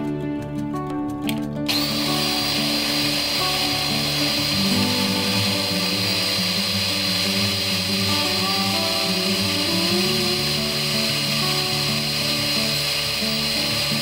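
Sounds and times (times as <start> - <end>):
food chopper whining: 1.7 - 14.0.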